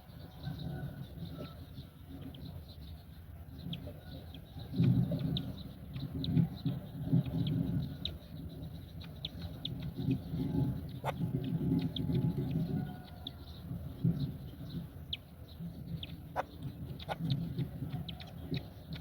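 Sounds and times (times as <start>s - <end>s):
low rumbling noise: 0.1s - 19.0s.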